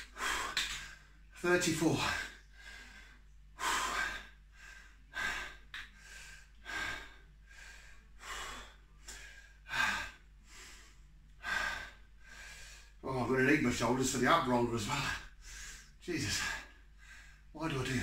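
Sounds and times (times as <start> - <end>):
man breathing hard: 0.0 - 1.3, 1.9 - 13.0, 14.9 - 17.5.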